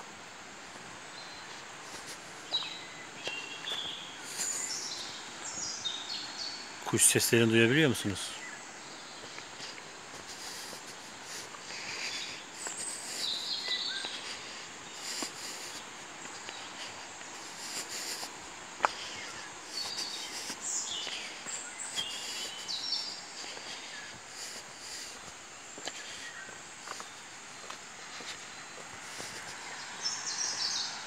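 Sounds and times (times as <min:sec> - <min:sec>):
distant waterfall rushing: 0:00.0 - 0:31.0
footsteps on stone steps: 0:00.6 - 0:05.4, 0:09.2 - 0:31.0
songbirds chirping and trilling: 0:00.6 - 0:31.0.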